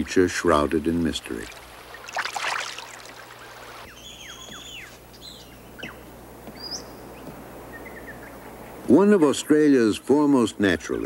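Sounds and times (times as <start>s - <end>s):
birds chirping: 0.0s - 9.0s
outdoor background noise: 0.0s - 11.0s.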